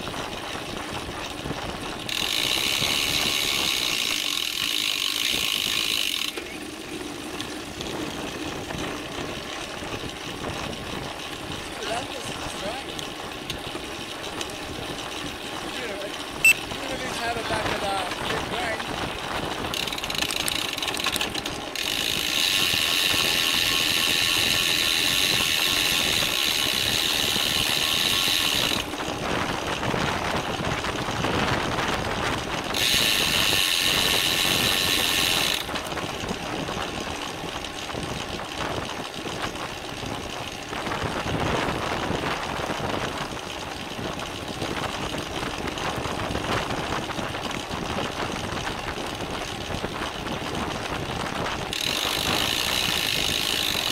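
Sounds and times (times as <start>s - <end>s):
bicycle freehub clicking: 0.0s - 53.9s
wind and tyre noise: 0.0s - 53.9s.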